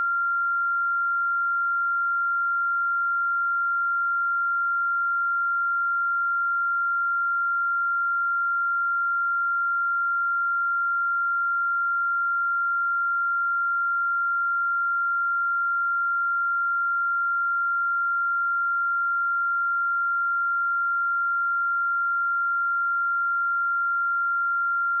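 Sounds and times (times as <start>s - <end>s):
high-pitched sine test tone: 0.0s - 25.0s.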